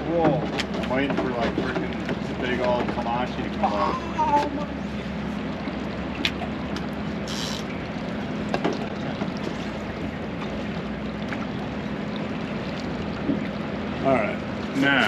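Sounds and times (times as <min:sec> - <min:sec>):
boat engine hum: 0:00.0 - 0:15.0
water wash: 0:00.0 - 0:15.0.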